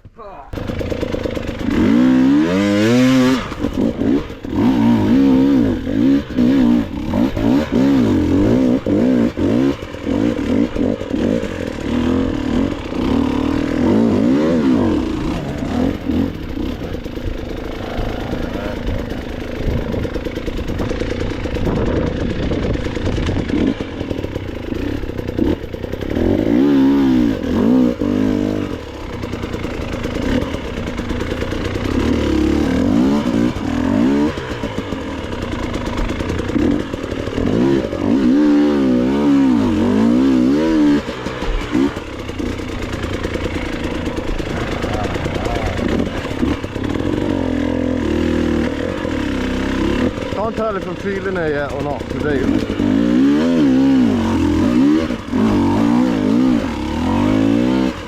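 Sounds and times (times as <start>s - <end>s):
dirt bike engine revving: 0.5s - 58.0s.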